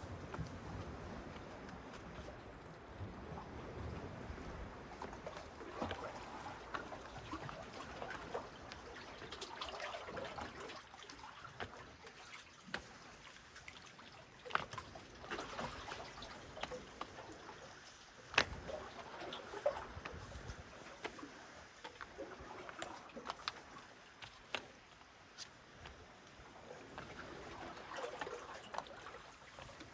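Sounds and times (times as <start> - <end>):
small waves lapping on rocks: 0.0 - 29.9.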